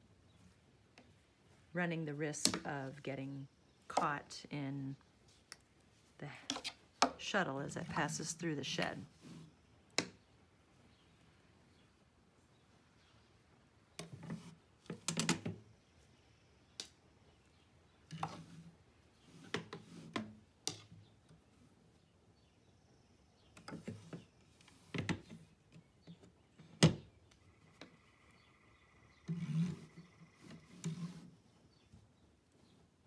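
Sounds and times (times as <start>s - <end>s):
hands handling yarn on a loom: 0.0s - 22.4s, 23.5s - 28.0s, 29.2s - 33.0s.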